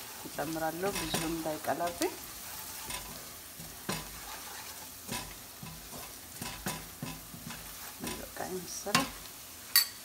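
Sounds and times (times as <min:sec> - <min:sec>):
spatula scraping a pan: 0:00.0 - 0:09.4
onions sizzling in oil: 0:00.0 - 0:10.0.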